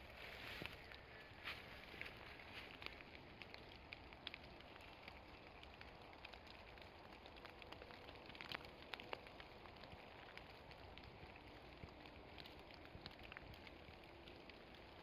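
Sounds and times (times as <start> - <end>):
light rain patter: 0.0 - 15.0
water drips: 0.6 - 15.0.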